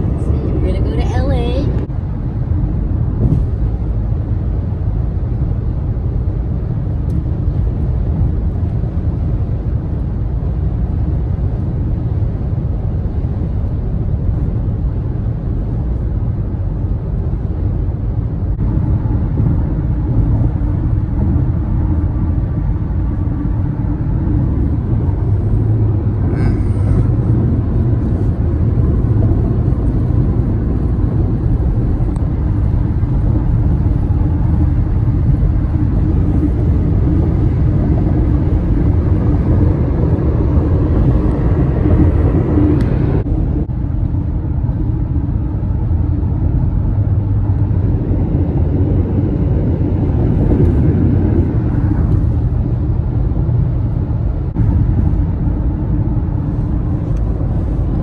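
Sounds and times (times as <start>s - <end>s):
car road noise rumble: 0.0s - 58.0s
surrounding traffic: 0.0s - 58.0s.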